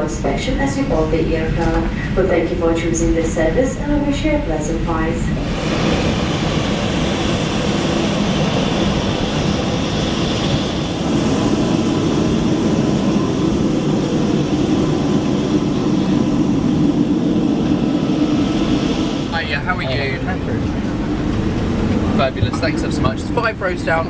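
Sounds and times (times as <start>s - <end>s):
airliner engine roar: 0.0s - 24.0s.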